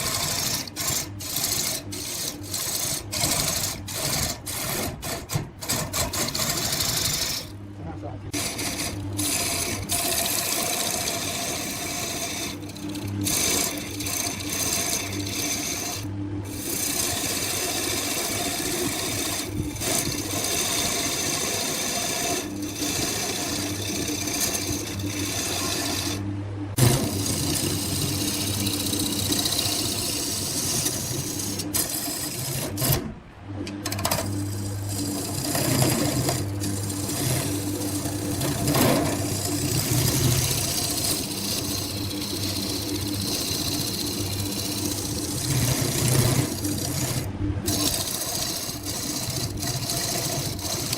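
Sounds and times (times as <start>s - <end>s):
turning tool scraping wood: 0.0s - 50.9s
wood lathe motor hum: 0.0s - 50.9s.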